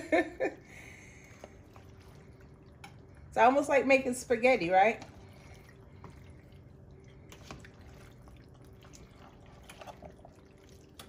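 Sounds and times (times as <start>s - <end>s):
low steady hum: 0.0s - 11.0s
pasta squelching in pot: 0.4s - 11.0s.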